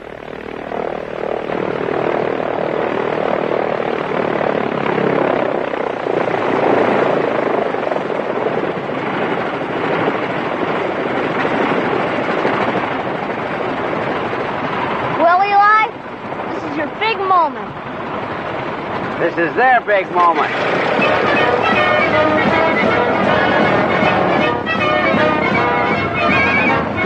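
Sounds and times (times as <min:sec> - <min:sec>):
propeller engine droning: 0:00.0 - 0:27.0.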